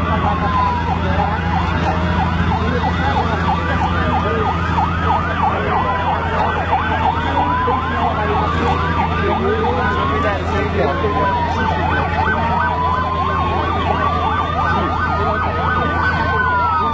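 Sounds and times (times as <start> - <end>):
siren wail rising and falling: 0.0 - 16.9
siren yelp: 0.0 - 16.9.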